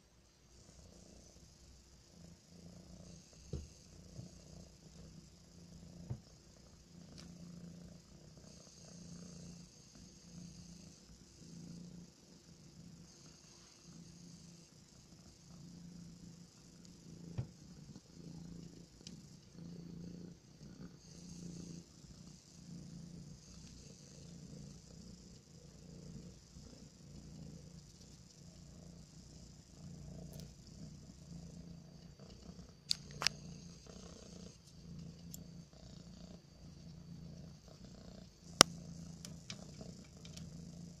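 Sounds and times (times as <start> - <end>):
kitten purring: 0.0 - 41.0.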